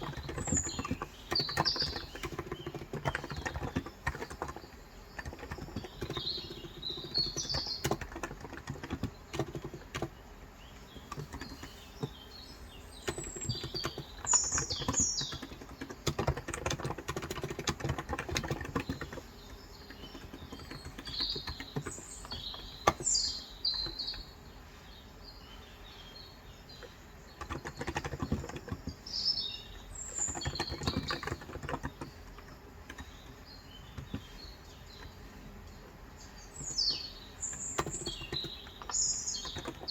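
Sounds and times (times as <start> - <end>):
keyboard typing: 0.0 - 24.3, 26.8 - 35.4, 36.6 - 39.9
small birds chirping: 0.0 - 39.9.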